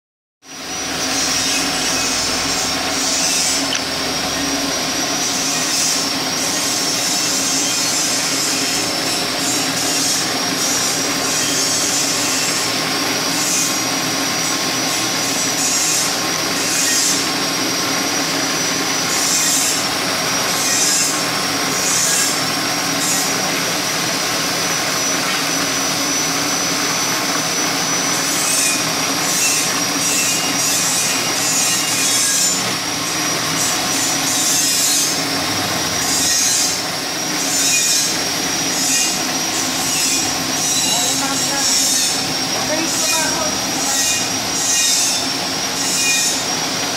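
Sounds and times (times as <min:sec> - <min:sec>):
lathe machine whine: 0:00.5 - 0:46.9.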